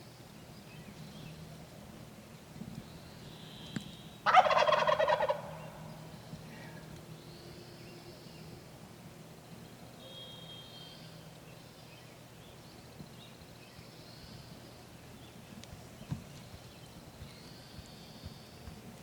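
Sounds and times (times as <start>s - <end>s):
low outdoor hum: 0.0s - 19.0s
songbirds singing: 0.0s - 19.0s.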